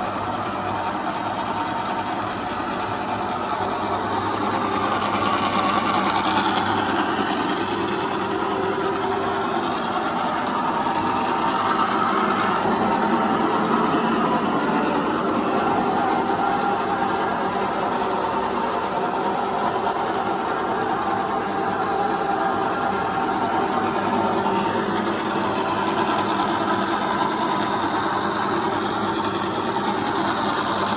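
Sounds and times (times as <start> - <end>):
milling machine hum and whir: 0.0 - 30.9.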